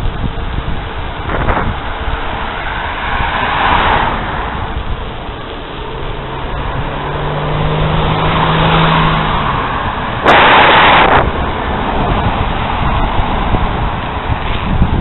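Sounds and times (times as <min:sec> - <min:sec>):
car overtaking: 0:00.0 - 0:15.0
sudden loud rush of noise: 0:00.0 - 0:15.0
wind and road rumble: 0:00.0 - 0:15.0.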